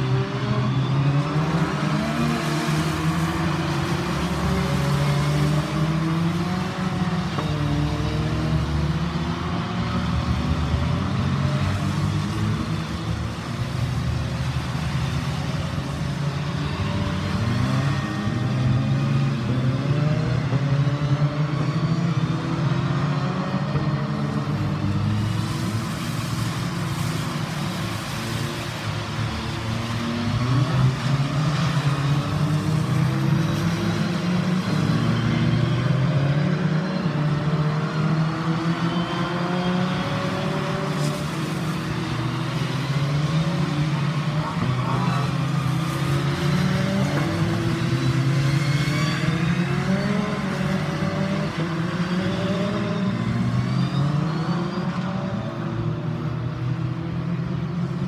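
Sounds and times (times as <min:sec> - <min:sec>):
race car engines accelerating: 0:00.0 - 0:58.0.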